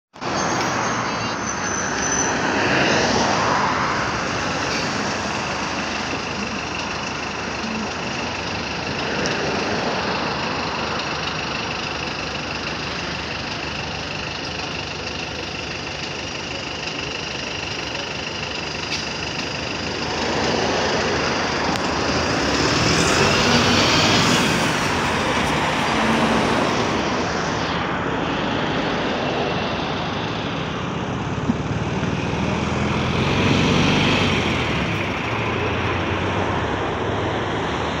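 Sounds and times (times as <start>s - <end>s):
another bus engine: 0.1s - 38.0s
bus engine whining: 0.1s - 38.0s
street traffic: 0.1s - 38.0s.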